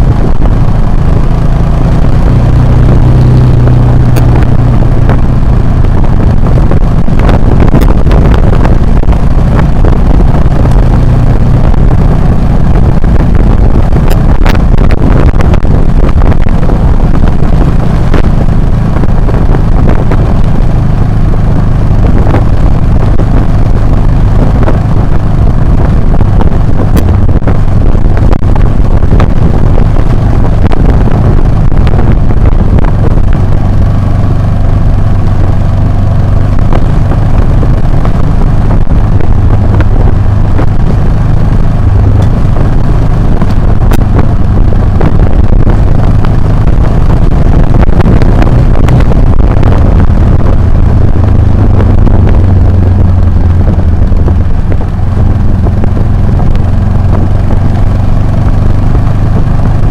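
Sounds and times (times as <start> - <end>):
wind buffeting microphone: 0.0 - 58.4
motorcycle engine running: 0.0 - 59.9.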